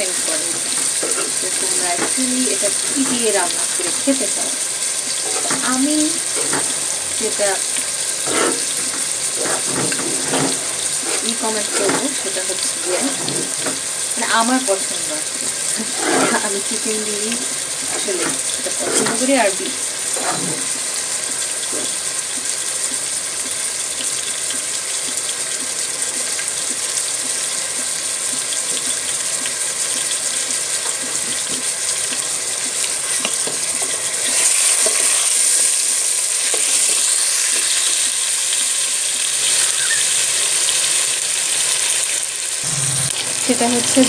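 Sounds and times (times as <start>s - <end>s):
chicken frying in oil: 0.0s - 44.0s.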